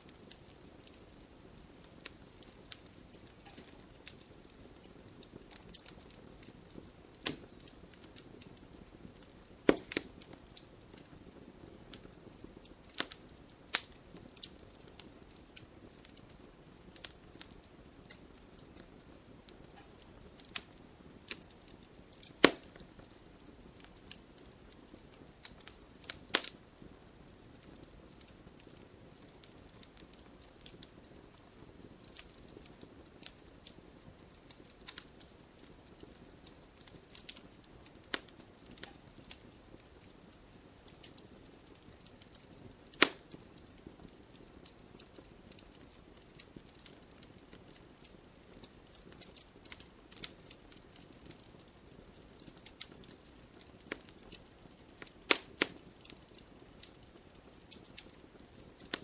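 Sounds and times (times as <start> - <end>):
fire popping and snapping: 0.0 - 59.0
wood fire crackling: 0.0 - 59.0.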